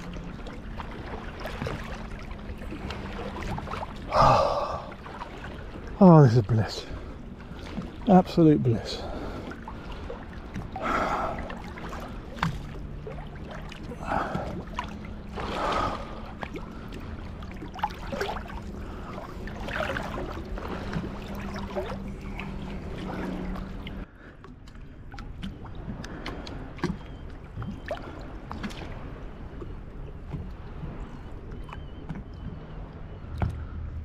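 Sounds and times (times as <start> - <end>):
steady low hum: 0.0 - 31.5
water lapping and splashing: 0.0 - 34.0.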